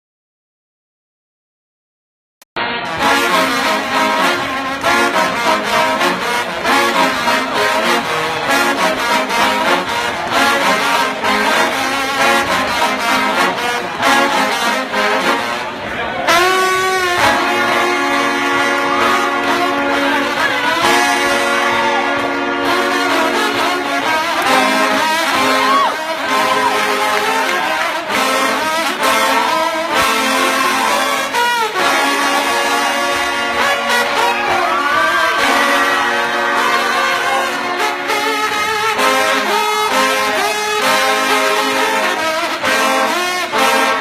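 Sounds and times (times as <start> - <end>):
trombone playing: 2.6 - 44.0.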